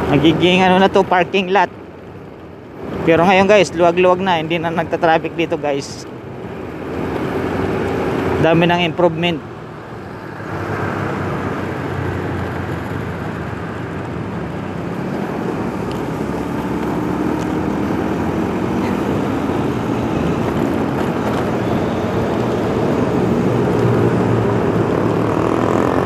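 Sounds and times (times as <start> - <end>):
road and air noise: 0.0 - 26.0.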